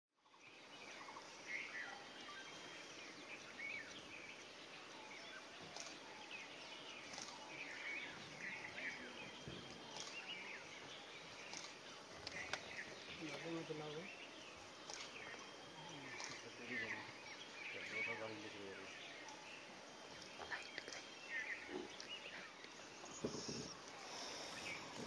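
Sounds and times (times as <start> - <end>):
faint bird chirps: 0.2 - 25.0.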